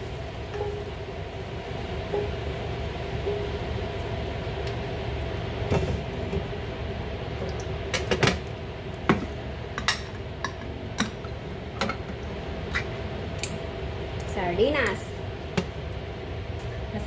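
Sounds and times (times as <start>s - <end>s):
kitchen hum: 0.0s - 17.0s.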